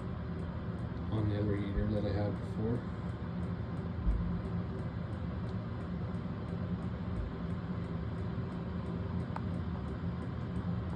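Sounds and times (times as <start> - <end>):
diesel heater hum: 0.0 - 10.9
faint regular ticks: 0.0 - 10.9.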